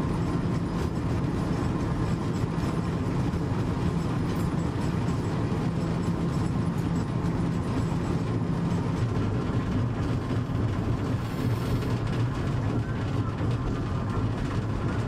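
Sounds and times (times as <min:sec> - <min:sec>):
train wheels on track: 0:00.0 - 0:15.0.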